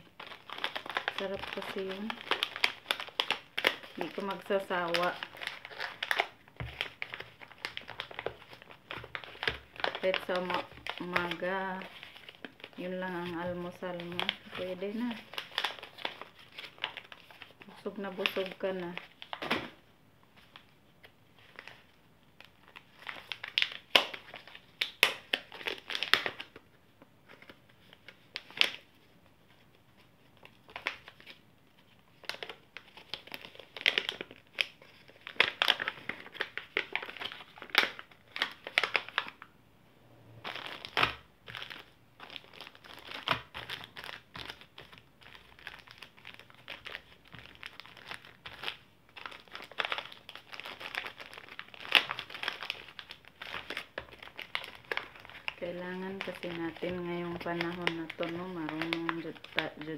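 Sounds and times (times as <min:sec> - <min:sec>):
packing pouches crinkling: 0:00.0 - 0:19.7, 0:20.3 - 0:39.5, 0:40.4 - 0:59.9.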